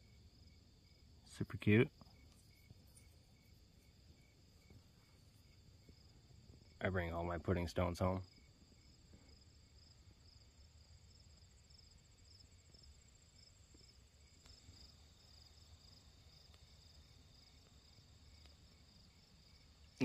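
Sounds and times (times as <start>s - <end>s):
high-pitched insect trill: 0.0s - 20.0s
insects chirping: 0.0s - 20.0s.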